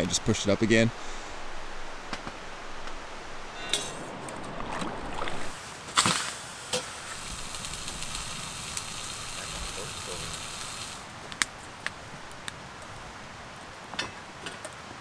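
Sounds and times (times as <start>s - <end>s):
moving water: 0.0s - 15.0s
wind: 0.0s - 15.0s.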